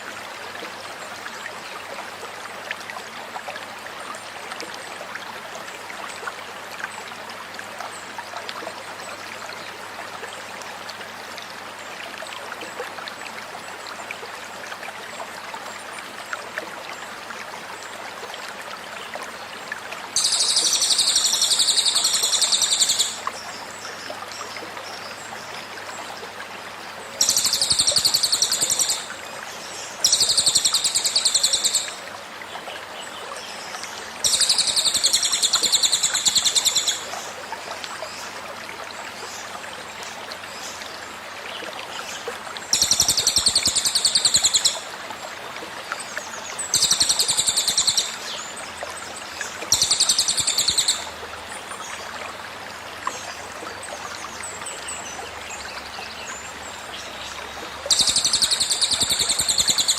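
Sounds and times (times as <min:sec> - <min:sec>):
flowing stream: 0:00.0 - 0:59.9.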